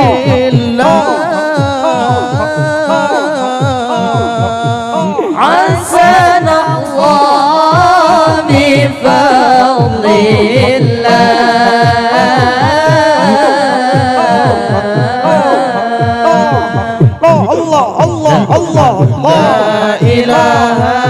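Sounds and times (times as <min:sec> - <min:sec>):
solo voice singing: 0:00.0 - 0:21.0.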